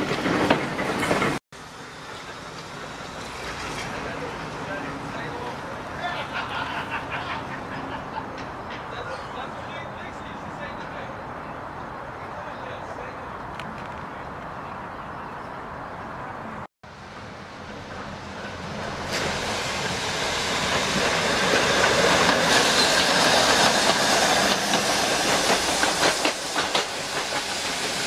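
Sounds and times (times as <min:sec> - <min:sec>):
streetcar wheels rumbling on rail: 0:00.0 - 0:28.0.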